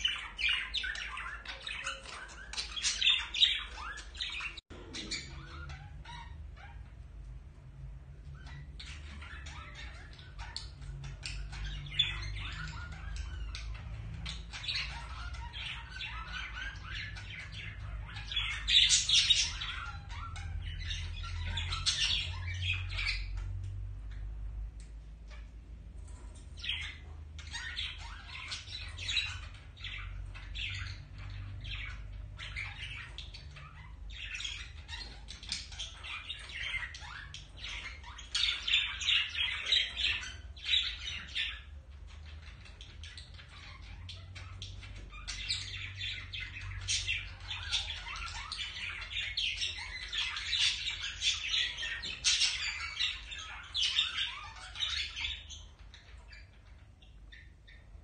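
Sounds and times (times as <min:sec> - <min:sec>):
budgerigars chattering: 0:00.0 - 0:07.2, 0:08.2 - 0:24.4, 0:26.5 - 0:58.0.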